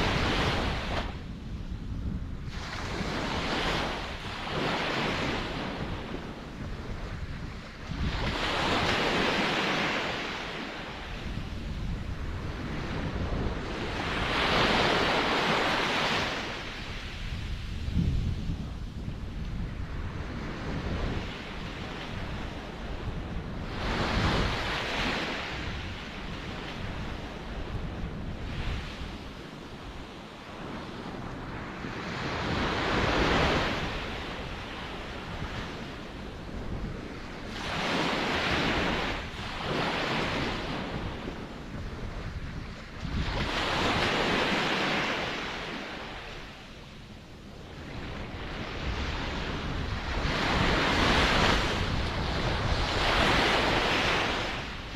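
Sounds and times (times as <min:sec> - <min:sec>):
low rumble of sea: 0:00.0 - 0:54.9
waves breaking and washing in: 0:00.0 - 0:54.9.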